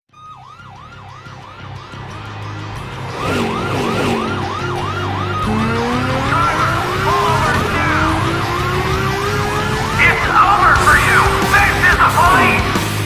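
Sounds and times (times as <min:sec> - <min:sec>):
police sirens yelping: 0:00.2 - 0:13.0
car engine revving: 0:01.8 - 0:13.0.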